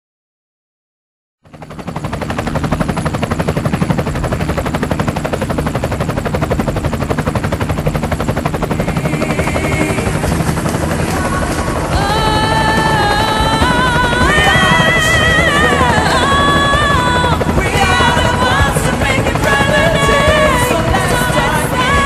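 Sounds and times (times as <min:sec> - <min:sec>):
helicopter rotor chopping: 0:01.4 - 0:22.0.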